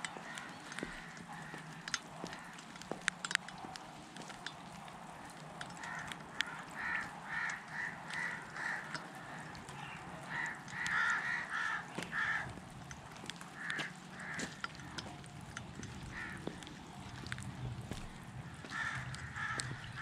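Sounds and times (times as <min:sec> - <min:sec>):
rain dripping into puddles: 0:00.0 - 0:20.0.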